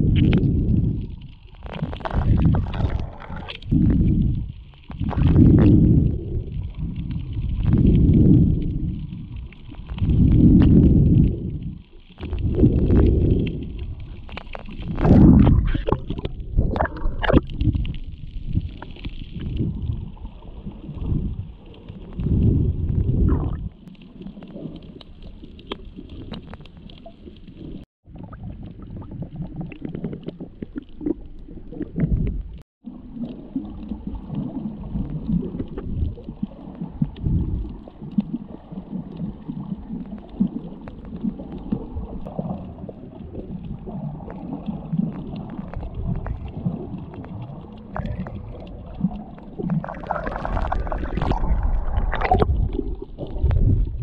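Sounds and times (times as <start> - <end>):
underwater churning and gurgling: 0.0 - 54.0.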